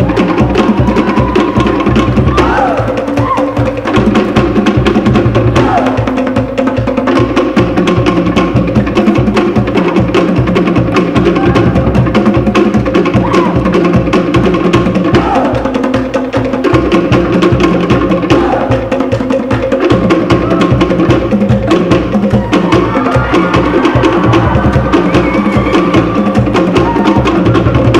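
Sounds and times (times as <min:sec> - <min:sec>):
deep skin drum: 0:00.0 - 0:27.9
wooden slit drums beating rapid strokes: 0:00.0 - 0:27.9.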